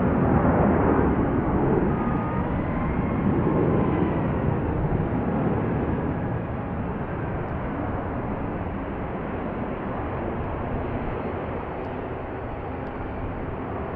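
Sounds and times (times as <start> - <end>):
jet engine roar: 0.0 - 13.9.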